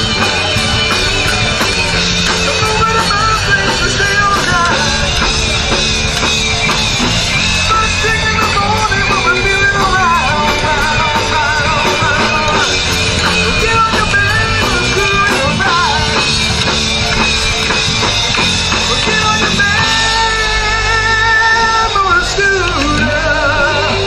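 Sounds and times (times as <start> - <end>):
rock band playing live: 0.0 - 24.0
wavering lead guitar notes: 0.0 - 24.0.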